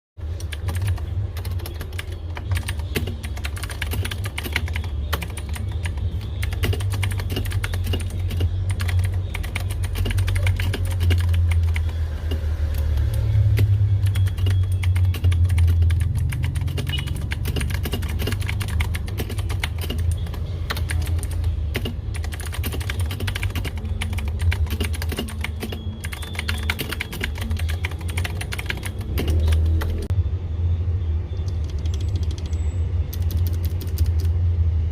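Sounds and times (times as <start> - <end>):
fast typing on mechanical keyboard: 0.4 - 30.1, 31.5 - 34.4.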